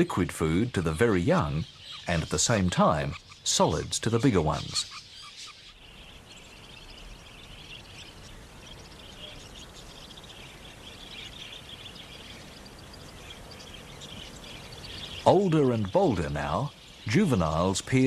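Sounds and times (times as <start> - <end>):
budgerigars chirping: 0.0 - 18.0
low background hiss: 0.0 - 18.0.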